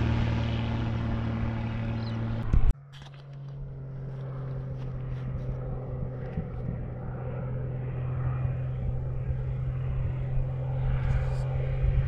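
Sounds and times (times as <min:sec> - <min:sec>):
propeller plane droning: 0:00.0 - 0:12.0.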